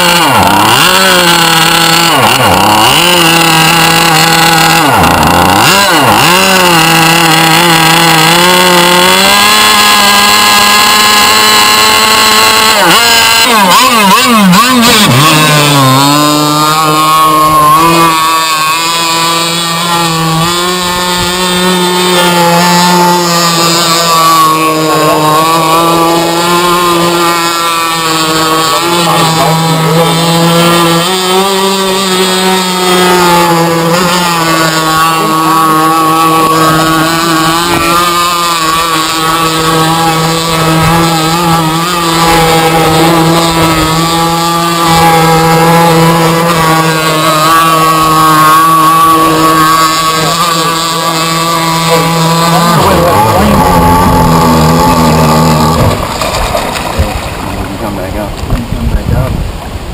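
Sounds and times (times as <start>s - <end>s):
small two-stroke engine idling: 0.0s - 57.4s.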